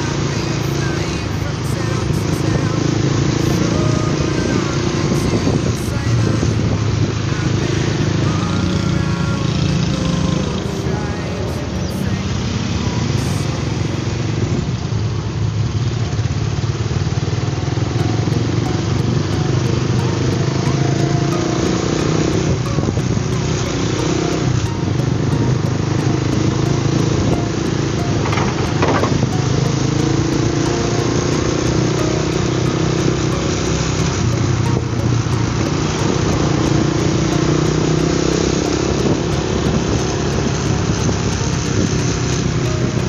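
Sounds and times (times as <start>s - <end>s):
motorcycle engine running: 0.0s - 43.0s
road and wind noise: 0.0s - 43.0s.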